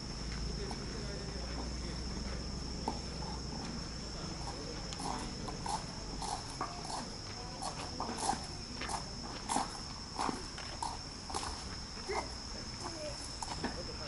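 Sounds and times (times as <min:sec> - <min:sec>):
crickets chirping: 0:00.0 - 0:14.0
footsteps on stone path: 0:00.1 - 0:14.0.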